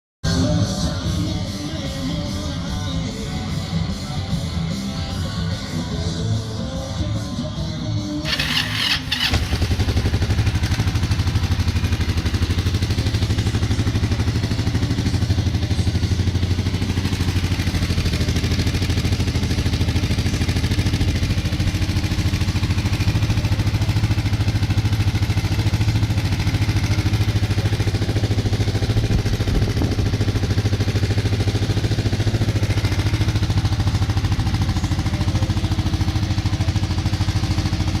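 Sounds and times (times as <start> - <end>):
motorcycle engine idling: 0.3 - 38.0.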